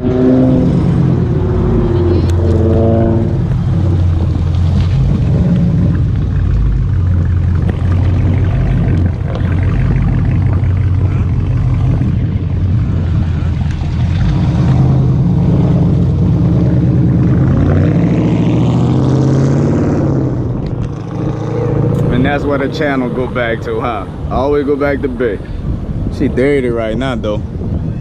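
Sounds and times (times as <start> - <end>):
car engine running: 0.0 - 24.5.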